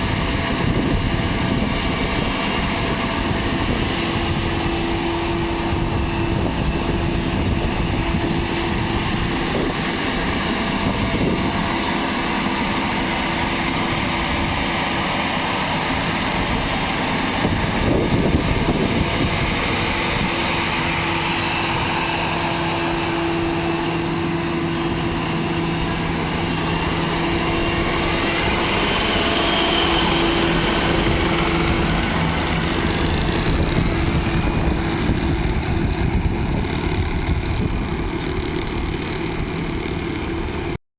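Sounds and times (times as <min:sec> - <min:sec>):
engine humming steadily: 0:00.0 - 0:40.8
machinery noise: 0:00.0 - 0:40.8.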